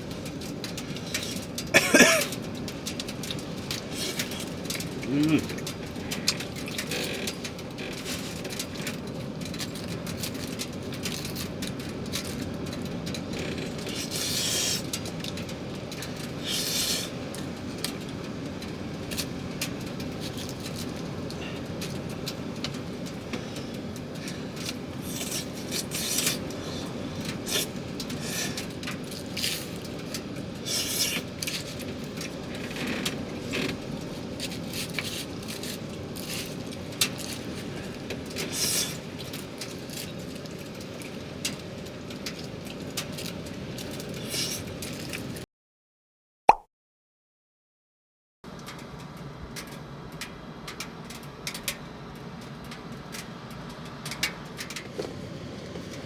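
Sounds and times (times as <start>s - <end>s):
steady rain: 0.0s - 45.4s, 48.5s - 56.0s.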